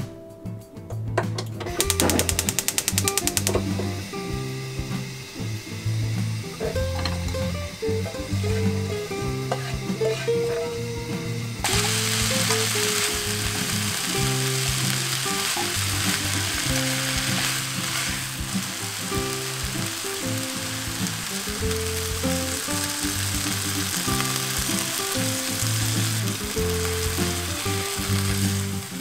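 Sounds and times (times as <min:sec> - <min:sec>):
background music: 0:00.0 - 0:29.0
greens sizzling in a pan: 0:01.8 - 0:29.0.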